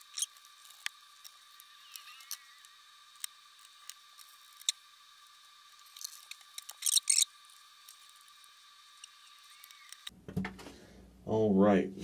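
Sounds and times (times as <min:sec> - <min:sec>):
thin steady whine: 0:00.0 - 0:12.0.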